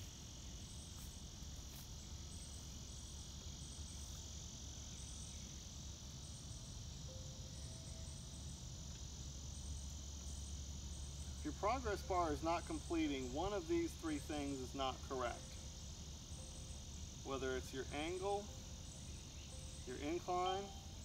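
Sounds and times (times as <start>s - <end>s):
insect chirps: 0.0s - 21.0s
insects buzzing: 0.0s - 21.0s.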